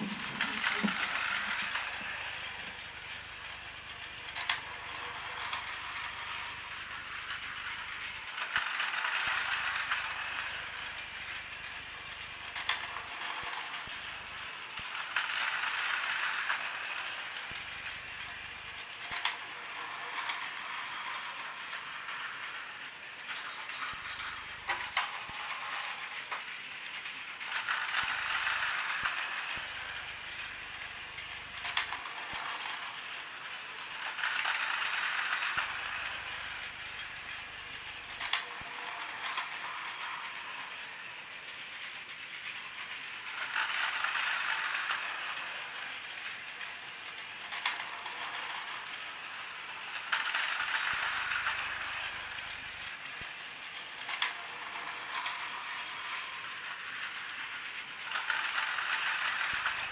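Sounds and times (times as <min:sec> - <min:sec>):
toy train motor whirring: 0:00.0 - 0:59.9.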